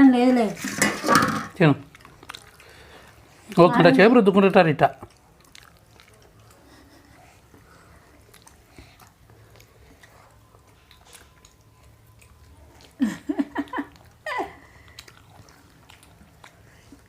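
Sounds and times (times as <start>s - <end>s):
people chewing: 1.6s - 17.0s.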